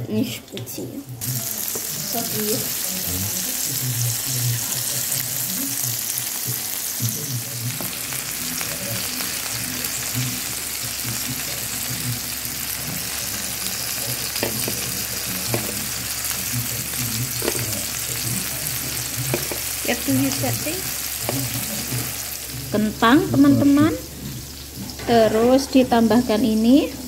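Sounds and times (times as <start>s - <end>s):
food sizzling on grill plate: 1.2s - 27.0s.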